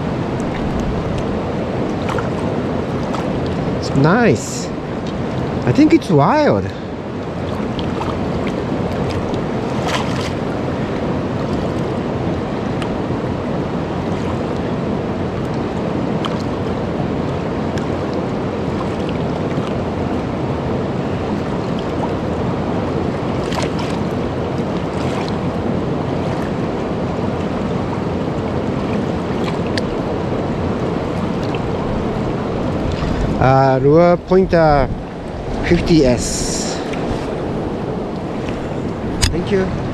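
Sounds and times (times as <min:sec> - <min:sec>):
fast-flowing river: 0:00.0 - 0:39.9.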